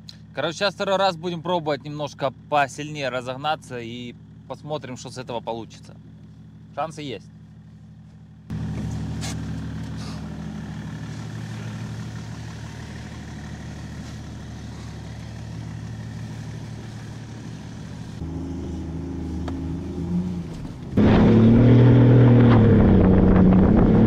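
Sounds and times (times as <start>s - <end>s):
diesel car engine under load: 0.0s - 24.0s.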